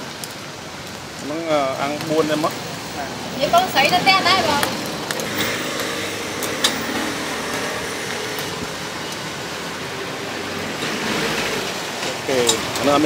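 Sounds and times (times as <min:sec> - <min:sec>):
street background hiss: 0:00.0 - 0:13.0.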